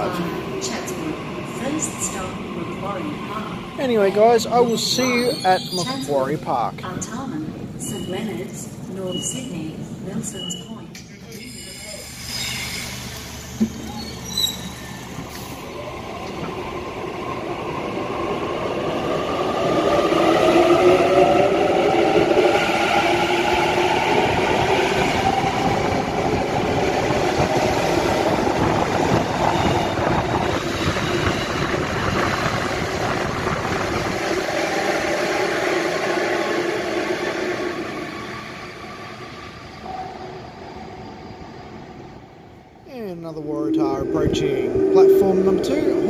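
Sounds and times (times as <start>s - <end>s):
rail and tunnel rumble: 0.0s - 46.0s.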